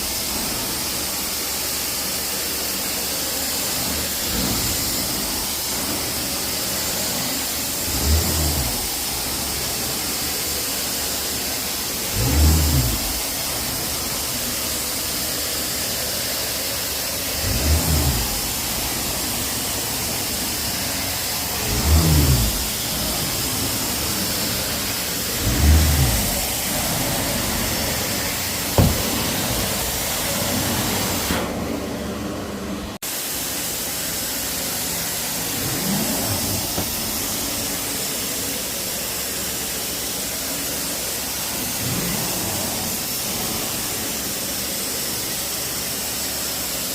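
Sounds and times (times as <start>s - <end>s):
carpet cleaner suction hiss: 0.0s - 46.9s.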